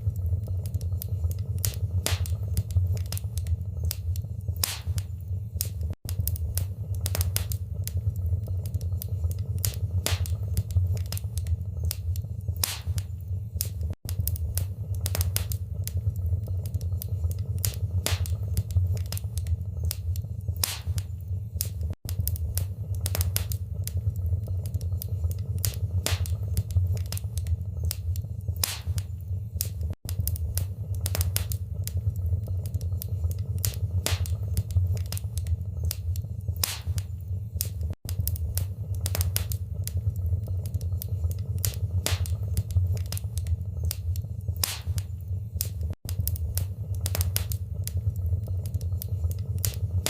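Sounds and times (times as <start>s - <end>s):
low rumble of burning: 0.0s - 50.0s
wood fire crackling: 0.0s - 50.0s.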